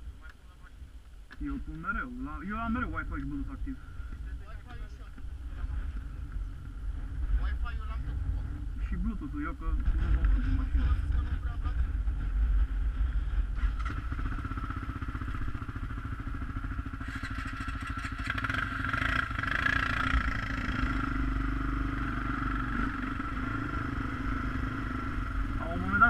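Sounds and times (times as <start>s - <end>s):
atv engine running: 1.5s - 26.0s.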